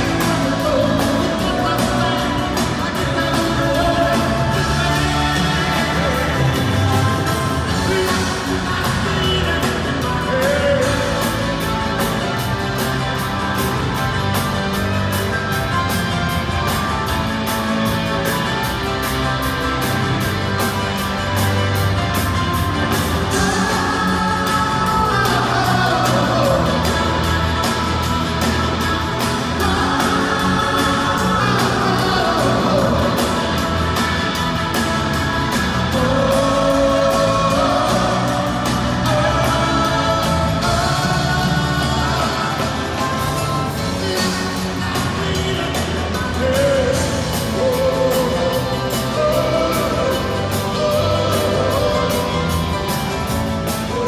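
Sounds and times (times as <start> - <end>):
live rock band with singing: 0.0 - 54.0.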